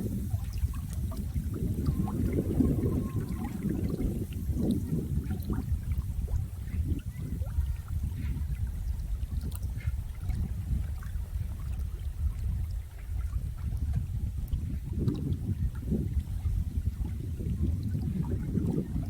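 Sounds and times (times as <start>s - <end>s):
water flowing and trickling: 0.0s - 19.0s
water splashes and drips: 0.0s - 19.0s.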